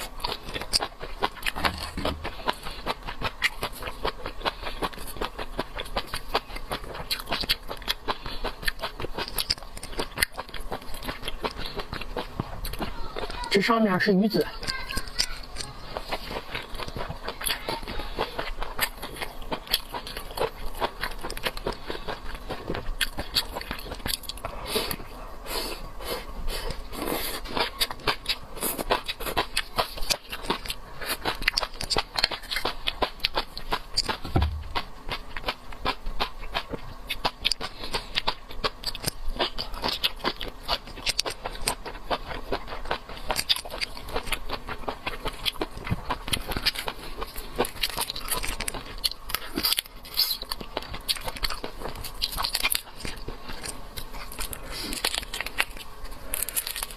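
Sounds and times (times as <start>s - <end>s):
chewing and mouth smacking: 0.0s - 56.9s.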